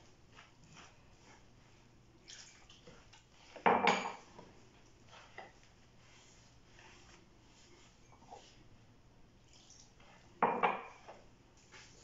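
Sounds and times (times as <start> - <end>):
hands mixing dough rustling: 0.0 - 12.0.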